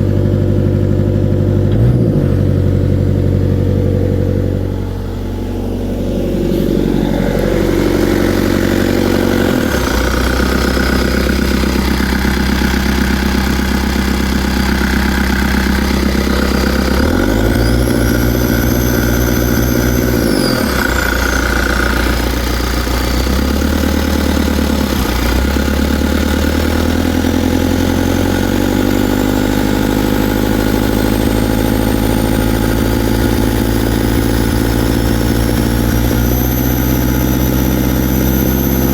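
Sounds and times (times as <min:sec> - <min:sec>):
high whine: 0:00.0 - 0:25.3, 0:29.9 - 0:38.9
diesel engine revving: 0:00.0 - 0:38.9.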